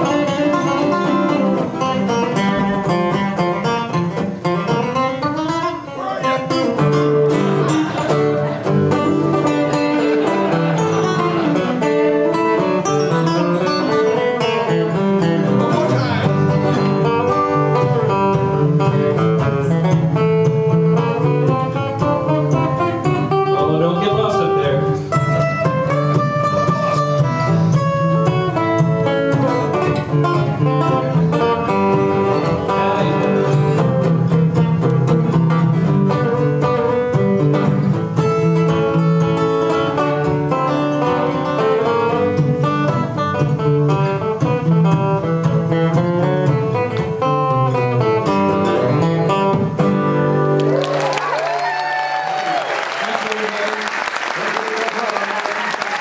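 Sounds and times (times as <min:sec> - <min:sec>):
acoustic guitars playing: 0:00.0 - 0:56.0.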